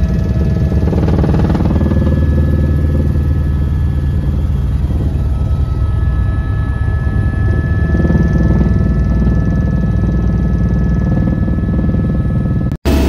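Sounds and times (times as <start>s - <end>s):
helicopter engine and rotors: 0.0s - 13.0s.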